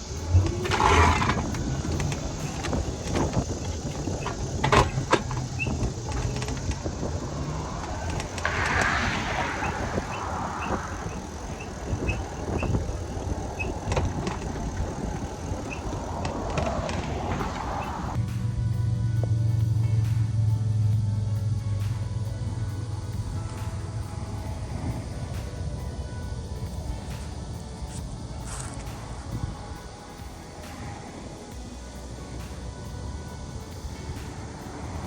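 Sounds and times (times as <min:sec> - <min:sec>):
low hum: 0:00.0 - 0:35.0
wind and road noise: 0:00.0 - 0:35.0.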